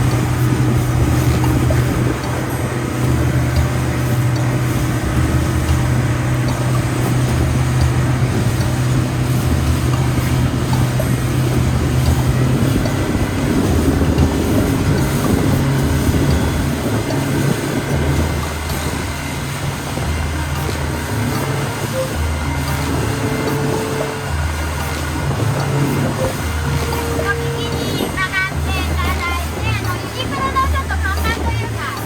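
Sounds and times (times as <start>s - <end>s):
motorboat engine hum: 0.0s - 32.0s
water rushing: 0.0s - 32.0s
wind noise: 0.0s - 32.0s.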